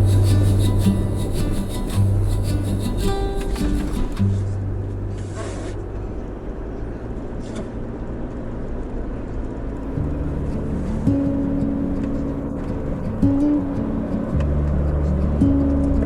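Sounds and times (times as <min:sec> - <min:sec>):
music with low held notes: 0:00.0 - 0:07.5, 0:09.8 - 0:16.0
van engine and road noise: 0:00.0 - 0:16.0.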